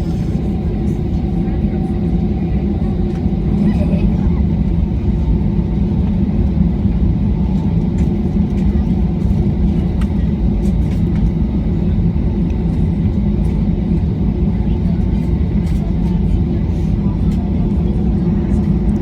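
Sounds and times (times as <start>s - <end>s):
aeroplane engines rumbling: 0.0s - 19.0s.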